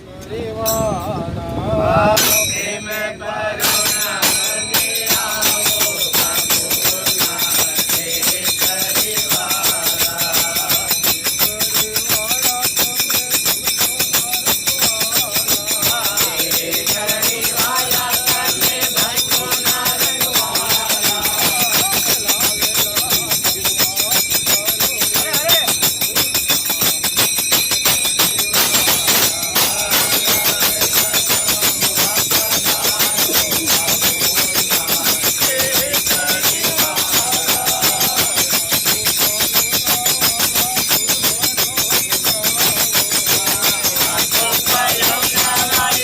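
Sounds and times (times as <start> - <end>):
group singing devotional song: 0.0 - 22.8, 28.5 - 39.8, 42.4 - 46.0
jingling hand percussion: 0.6 - 1.3, 1.9 - 46.0.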